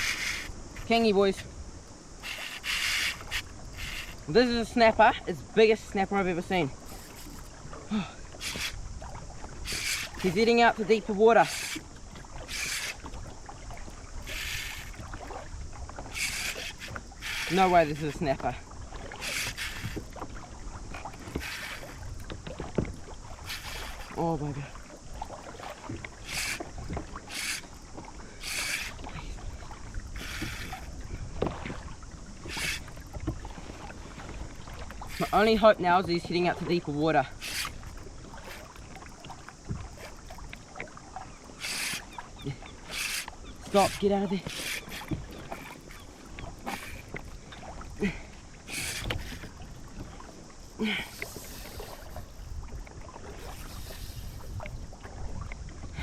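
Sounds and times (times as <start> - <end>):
fishing reel drag buzzing: 0.0 - 7.6, 8.3 - 15.4, 16.0 - 20.2, 20.9 - 22.3, 23.2 - 24.6, 25.4 - 31.2, 32.4 - 33.2, 34.9 - 40.6, 41.3 - 52.5, 53.3 - 54.6
water against kayak hull: 0.0 - 56.0.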